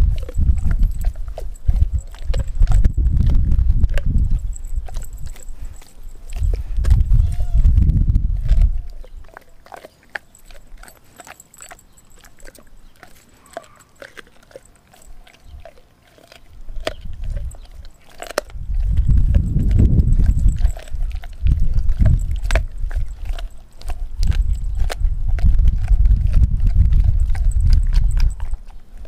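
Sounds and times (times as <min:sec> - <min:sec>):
dog chewing on bone: 0:00.0 - 0:29.0.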